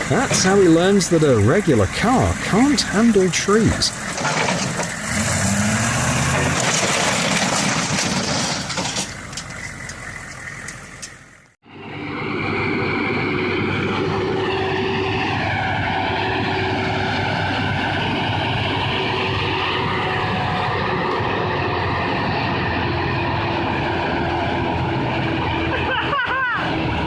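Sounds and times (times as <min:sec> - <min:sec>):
large engine running under load: 0:00.0 - 0:27.0.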